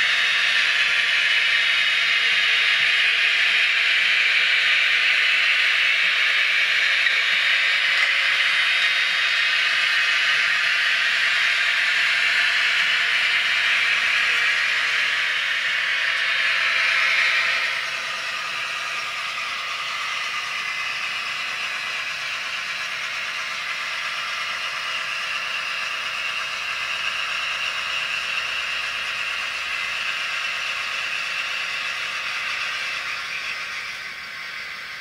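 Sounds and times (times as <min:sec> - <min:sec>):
diesel engine sound from small speaker: 0:00.0 - 0:35.0
model train whirring and rattling: 0:00.0 - 0:35.0.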